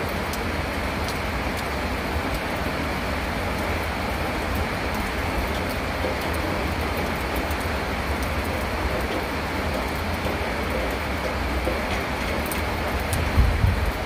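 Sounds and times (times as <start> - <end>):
floodwater rushing: 0.0 - 14.0
heavy rain: 0.0 - 14.0.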